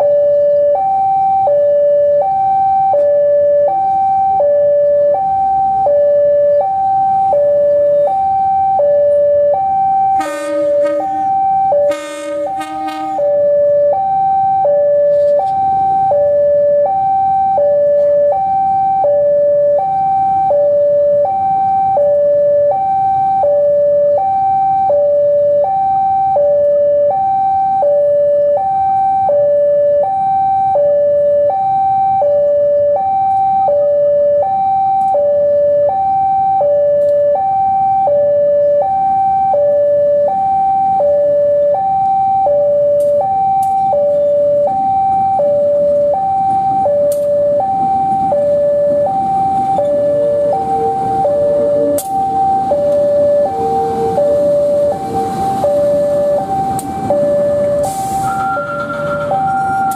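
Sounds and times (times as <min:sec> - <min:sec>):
diesel locomotive rumble: 0:00.0 - 0:32.0, 0:35.4 - 0:59.9
level crossing two-tone alarm: 0:00.0 - 0:59.9.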